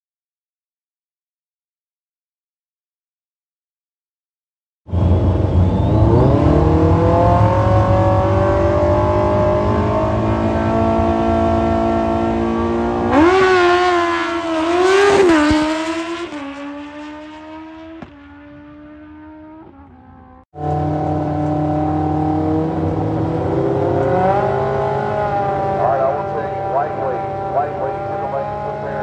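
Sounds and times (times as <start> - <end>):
sportbike engine at full throttle: 4.9 - 29.0.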